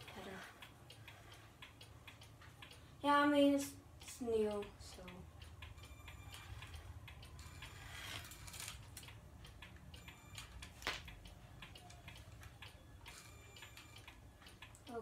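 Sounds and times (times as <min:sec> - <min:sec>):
mechanical ticking and clicking: 0:00.0 - 0:15.0.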